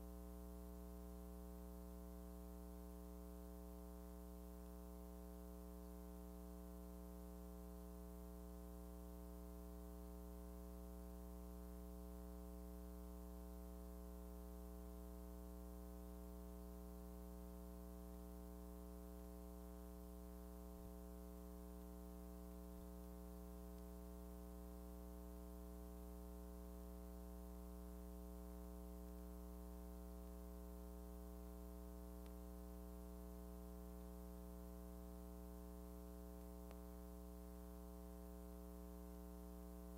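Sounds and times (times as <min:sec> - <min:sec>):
faint hum with overtones: 0:00.0 - 0:39.9.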